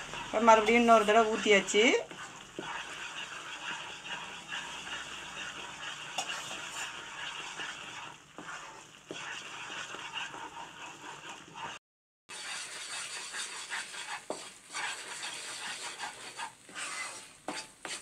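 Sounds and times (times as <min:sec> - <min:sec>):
batter sizzling and frothing in oil: 0:00.0 - 0:18.0
wooden spatula scraping a pan: 0:00.0 - 0:18.0.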